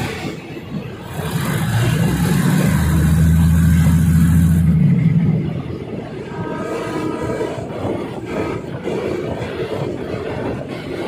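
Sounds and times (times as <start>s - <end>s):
train diesel engine drone: 0.0s - 11.0s.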